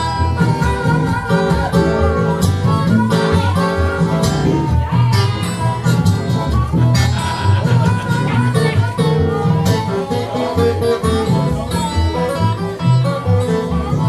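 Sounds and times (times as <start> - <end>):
acoustic blues guitar: 0.0 - 14.0.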